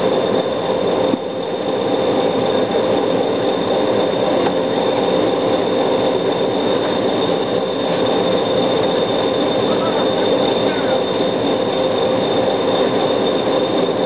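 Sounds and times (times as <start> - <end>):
constant high whine: 0.0 - 14.0
diesel locomotive engine drone: 0.0 - 14.0.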